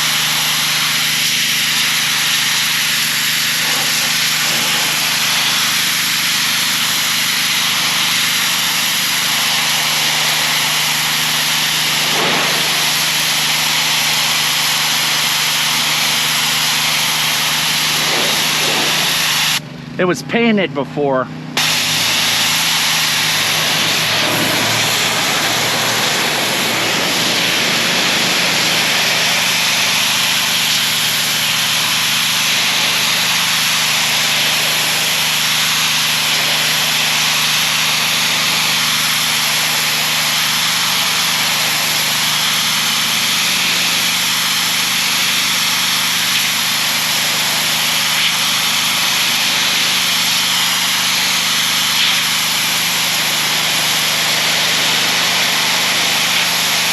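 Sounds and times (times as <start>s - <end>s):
water jet hissing against wall: 0.0s - 19.6s, 21.6s - 56.9s
small engine droning: 0.0s - 56.9s.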